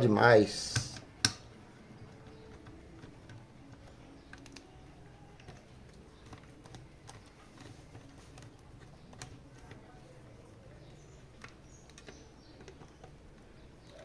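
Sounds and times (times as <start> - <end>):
hand tools and parts clicking: 0.0 - 10.0, 10.8 - 14.0.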